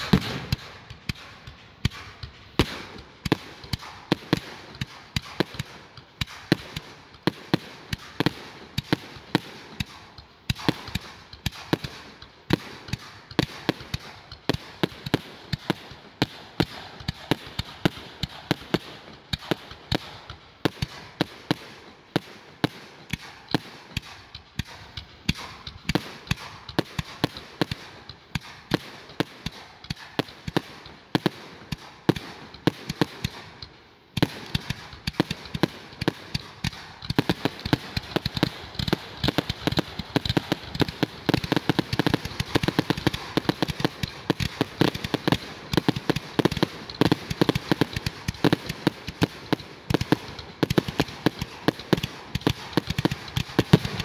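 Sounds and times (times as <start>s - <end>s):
fireworks bangs and cracks: 0.0s - 54.0s.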